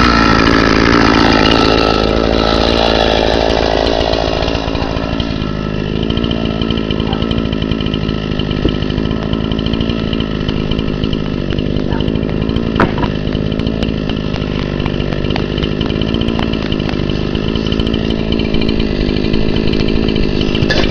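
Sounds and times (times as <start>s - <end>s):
chainsaw cutting wood at full throttle: 0.0s - 20.9s.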